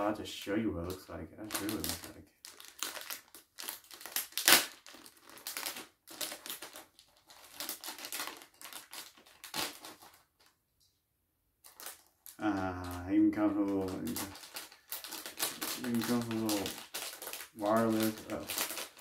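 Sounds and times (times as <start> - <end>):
plastic bag crinkling: 1.4 - 10.6, 11.6 - 19.0.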